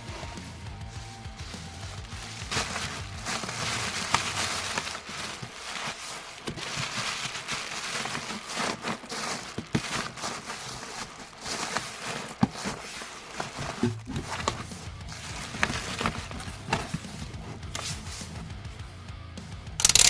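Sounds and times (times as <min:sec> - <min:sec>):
packing materials rustling: 0:00.0 - 0:18.8.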